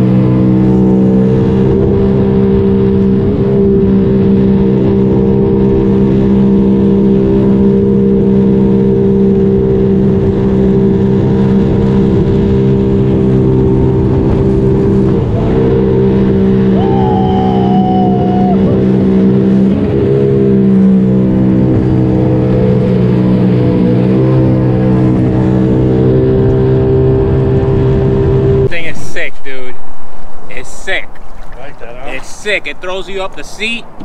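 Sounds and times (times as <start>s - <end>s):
watercraft engine at high throttle: 0.0s - 34.0s.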